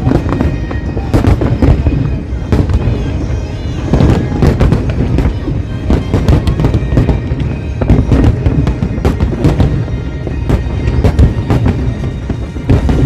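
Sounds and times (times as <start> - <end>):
fireworks bursting with sharp bangs: 0.0 - 13.0
music playing: 0.0 - 13.0.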